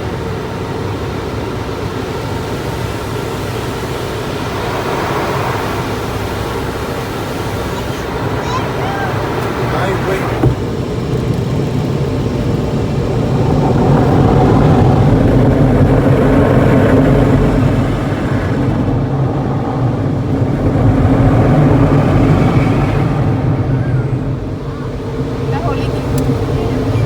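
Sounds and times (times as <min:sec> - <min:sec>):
car wash machinery rumbling: 0:00.0 - 0:27.0.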